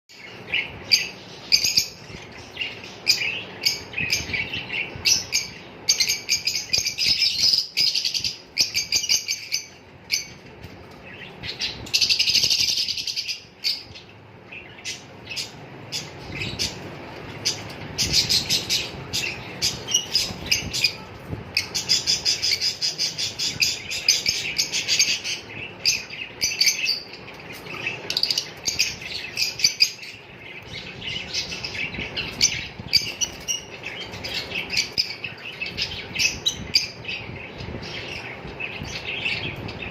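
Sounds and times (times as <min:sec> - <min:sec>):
small parrots chirping and chattering: 0:00.1 - 0:39.9.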